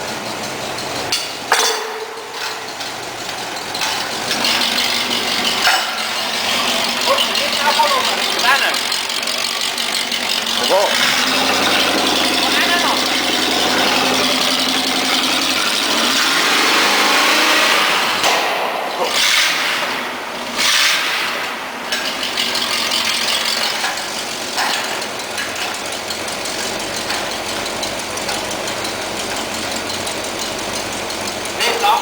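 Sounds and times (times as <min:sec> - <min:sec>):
car engine revving and idling: 0:03.4 - 0:32.0
exhaust sharp pops: 0:03.8 - 0:31.7.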